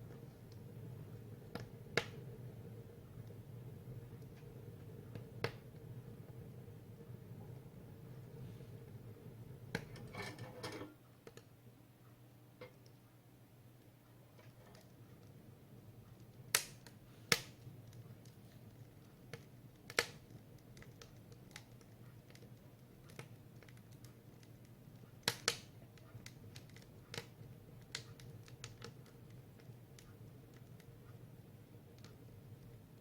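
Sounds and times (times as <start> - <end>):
firewood crackling in a stove: 0.0 - 33.0.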